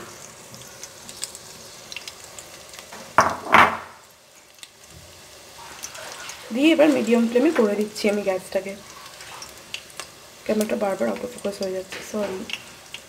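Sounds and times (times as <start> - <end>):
battered food frying in oil: 0.0 - 13.0.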